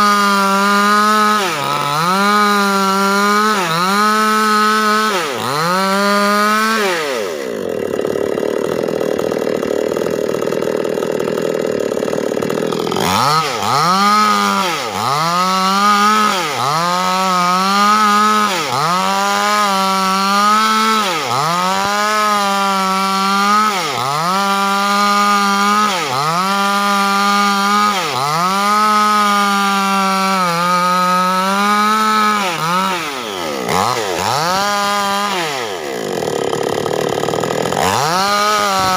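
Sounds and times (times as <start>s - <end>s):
petrol chainsaw cutting timber: 0.0s - 38.9s.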